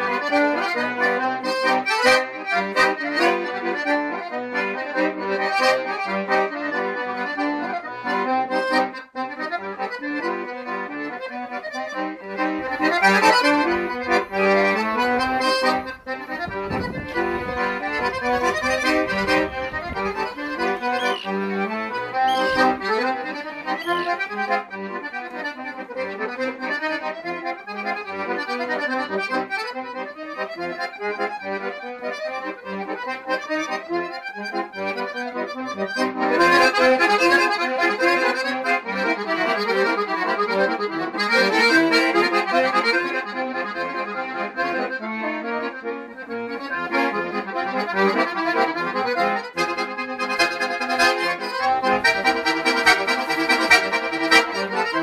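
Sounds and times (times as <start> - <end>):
instrumental background music: 0.0 - 55.0.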